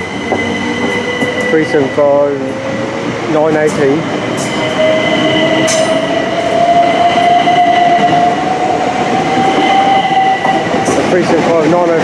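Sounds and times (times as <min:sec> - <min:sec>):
electric train traction whine: 0:00.0 - 0:12.0
wheels rumbling on rail: 0:00.0 - 0:12.0.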